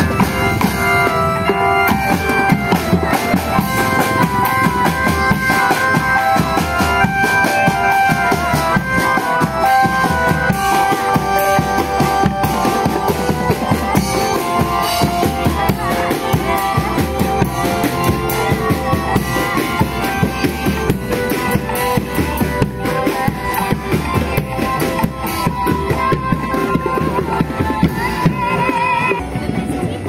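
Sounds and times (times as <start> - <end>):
marching drums beating: 0.0 - 28.5
melody over drumming: 0.0 - 30.0.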